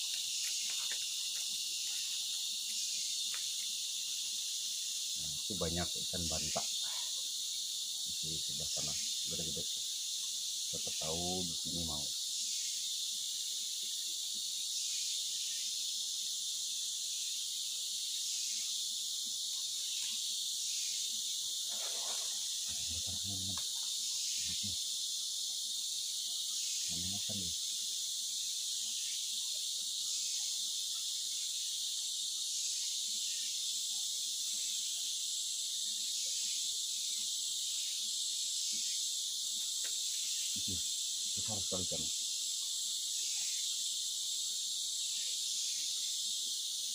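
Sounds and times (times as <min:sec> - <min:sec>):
insects shrilling: 0:00.0 - 0:46.9.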